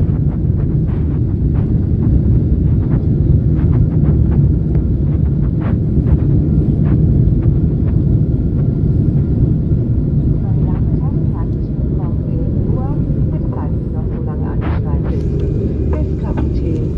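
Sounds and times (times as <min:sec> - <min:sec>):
airplane cabin rumble: 0:00.0 - 0:16.9.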